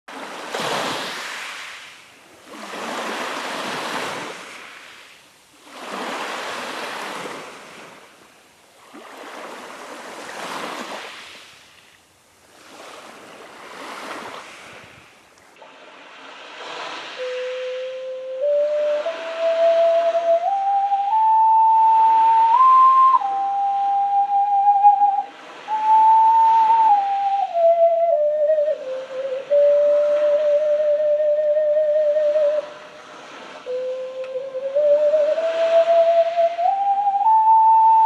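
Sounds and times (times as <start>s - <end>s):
surf washing onto sandy beach: 0.1s - 28.2s, 28.8s - 37.6s.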